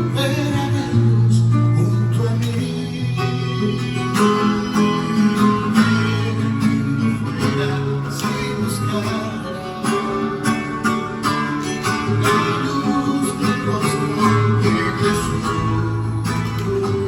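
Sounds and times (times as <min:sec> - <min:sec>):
guitar plucked and strummed: 0:00.0 - 0:17.0
sustained bass line: 0:00.0 - 0:17.0.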